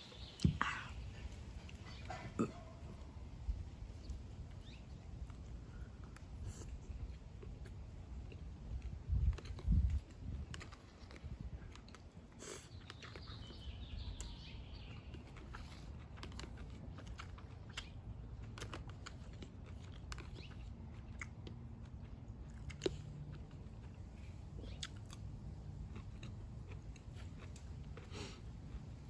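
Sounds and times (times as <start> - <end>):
person chewing food: 1.3 - 29.0.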